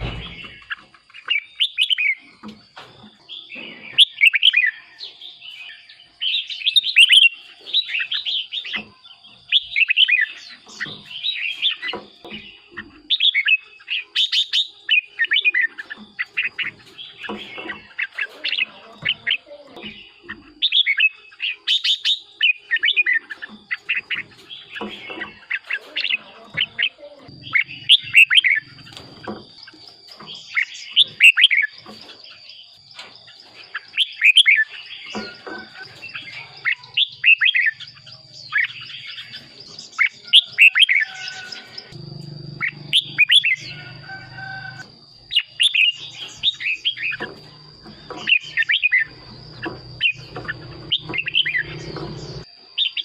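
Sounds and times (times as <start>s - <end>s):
birds singing whistled phrases: 0.0s - 53.0s.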